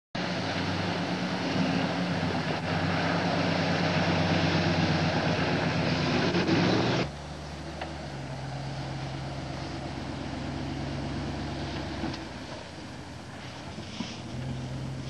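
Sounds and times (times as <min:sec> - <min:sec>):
truck engine running under load: 0:00.2 - 0:15.0.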